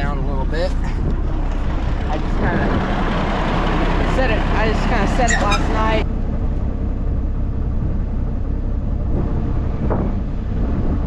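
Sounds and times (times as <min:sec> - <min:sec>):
tractor engine idling: 0:00.0 - 0:09.7.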